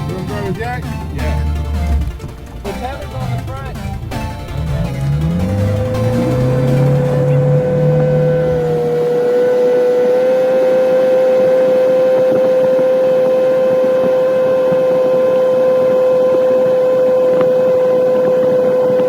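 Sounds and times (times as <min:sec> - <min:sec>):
outboard motor whine: 0:00.0 - 0:19.0.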